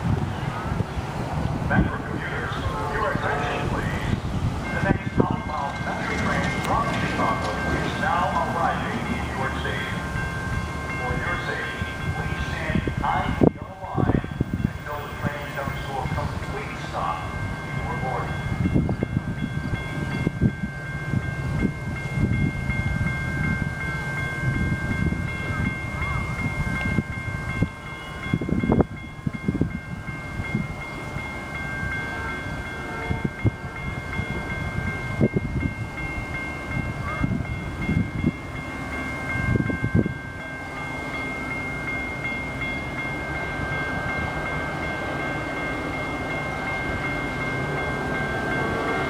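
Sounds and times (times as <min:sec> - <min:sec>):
wind rumbling on microphone: 0:00.0 - 0:40.4
crossing warning bells ringing: 0:00.0 - 0:49.0.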